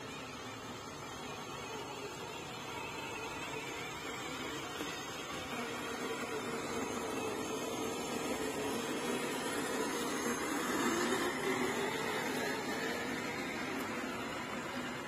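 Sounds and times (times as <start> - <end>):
toy car electric motors whirring: 0.0 - 15.0.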